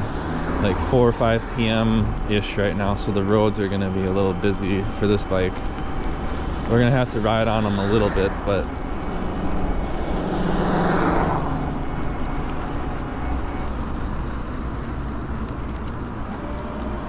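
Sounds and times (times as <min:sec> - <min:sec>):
road and wind noise: 0:00.0 - 0:17.0
vehicle passing: 0:00.0 - 0:17.0.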